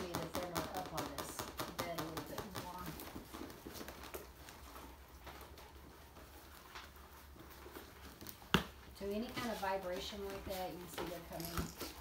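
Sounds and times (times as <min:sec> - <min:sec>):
puppy paws scrabbling on fabric: 0:00.0 - 0:12.0.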